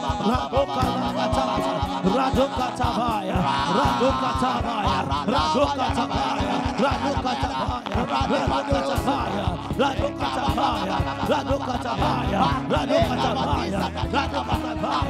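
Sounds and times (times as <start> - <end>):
held keyboard notes: 0.0 - 15.0
person rapidly praying: 0.0 - 15.0.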